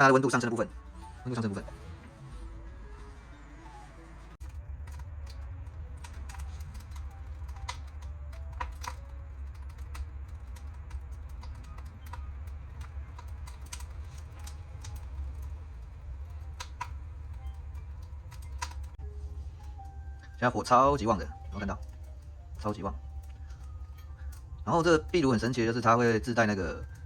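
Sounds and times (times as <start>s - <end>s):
firewood crackling in wood stove: 0.0s - 27.0s.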